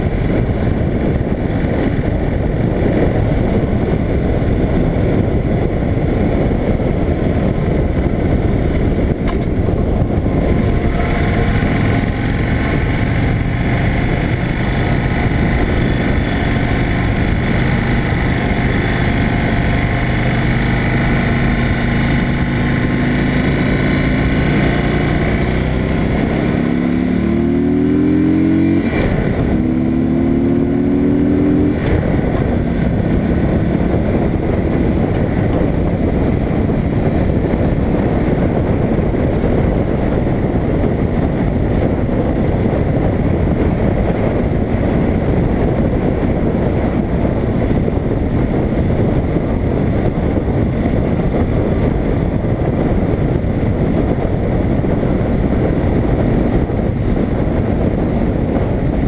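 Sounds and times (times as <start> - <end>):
motorcycle engine: 0.0 - 59.0
wind rushing over microphone: 0.0 - 59.0.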